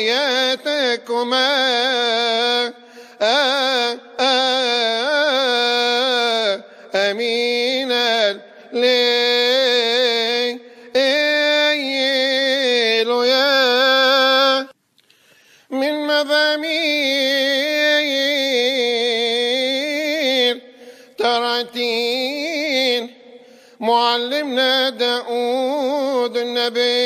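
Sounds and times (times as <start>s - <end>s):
man chanting melisma: 0.0s - 14.8s, 15.7s - 27.0s.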